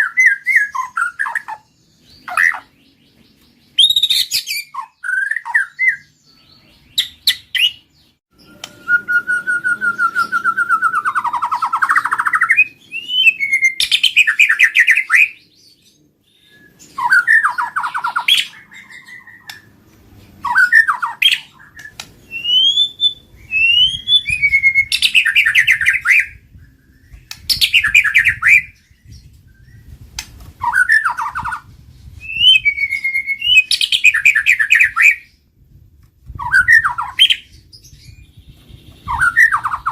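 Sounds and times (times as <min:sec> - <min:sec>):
songbird whistling and trilling: 0:00.0 - 0:35.5, 0:36.2 - 0:39.9.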